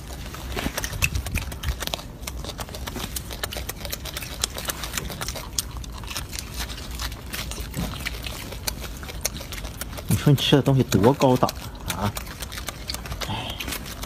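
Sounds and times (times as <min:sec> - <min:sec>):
monkey chewing wet smacks: 0:00.0 - 0:14.0
steady low rumble: 0:00.0 - 0:14.0.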